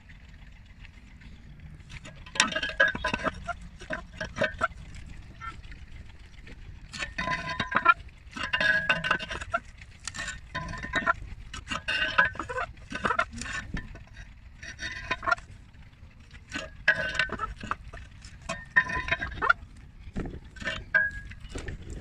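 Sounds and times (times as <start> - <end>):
climbing shoes clanking on pole: 2.0 - 15.5, 16.4 - 22.0.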